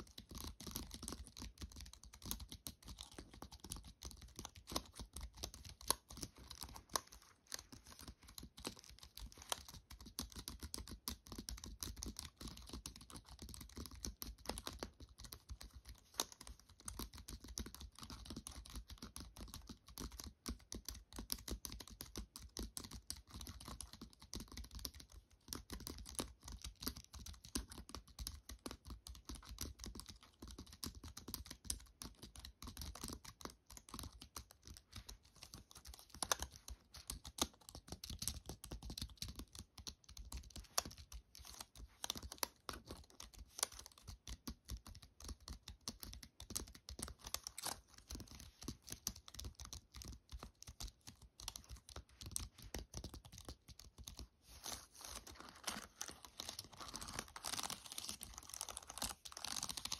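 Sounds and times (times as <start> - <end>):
fast typing on keyboard: 0.0 - 59.9.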